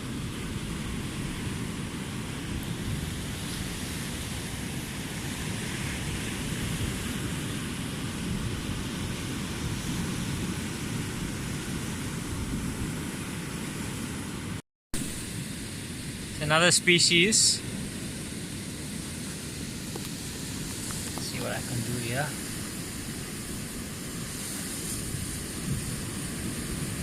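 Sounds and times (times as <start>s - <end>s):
wind rumbling on microphone: 0.0s - 16.4s, 17.6s - 27.0s
surf washing on shore: 0.0s - 27.0s.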